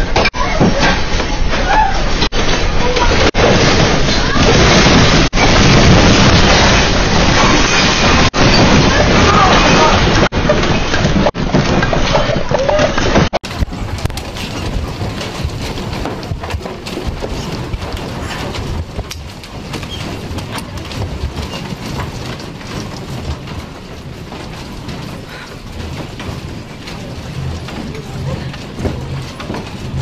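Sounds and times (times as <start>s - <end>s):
low rumble of earthquake: 1.3s - 30.0s
furniture clattering and rattling: 2.4s - 30.0s.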